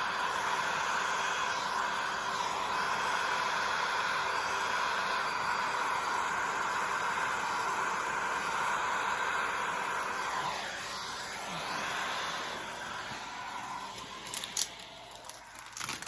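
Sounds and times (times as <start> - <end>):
heat gun blowing: 0.0 - 16.0.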